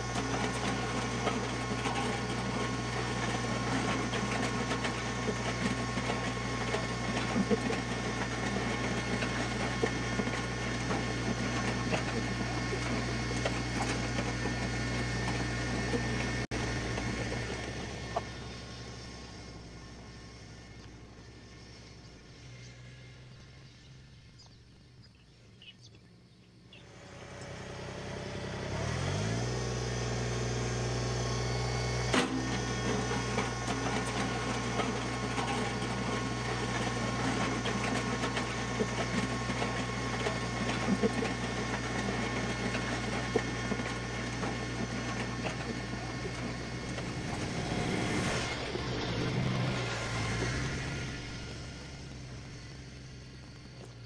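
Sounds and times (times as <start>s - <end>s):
gravel crackling under blade: 0.0s - 25.0s, 32.1s - 54.0s
tractor diesel engine: 0.0s - 25.6s, 26.5s - 54.0s.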